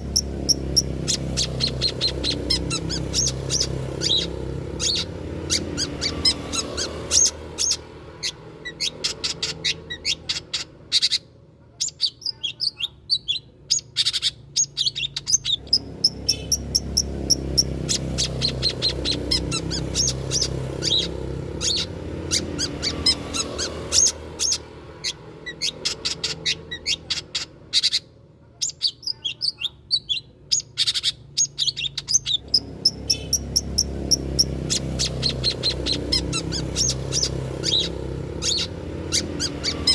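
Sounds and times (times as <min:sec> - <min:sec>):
bird chirping sharp high notes: 0:00.0 - 0:11.2, 0:11.8 - 0:28.0, 0:28.6 - 0:39.9.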